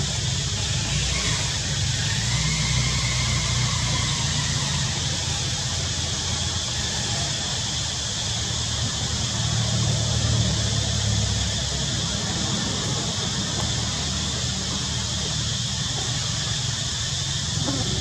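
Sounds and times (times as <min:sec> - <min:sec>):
rushing outdoor noise: 0:00.0 - 0:18.0.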